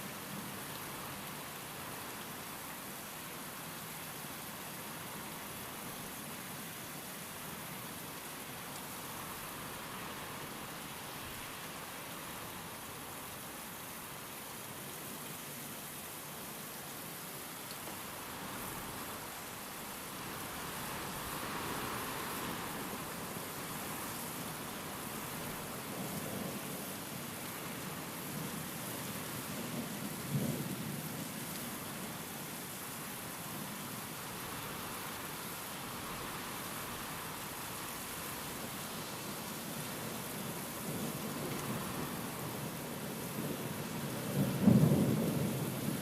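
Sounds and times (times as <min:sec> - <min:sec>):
steady rain: 0:00.0 - 0:46.0
wind: 0:00.0 - 0:46.0.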